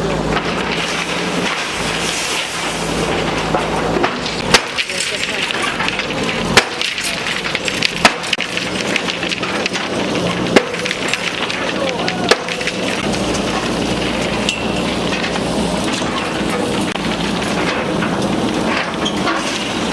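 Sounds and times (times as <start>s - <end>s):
wood cracking and splintering: 0.0s - 19.9s.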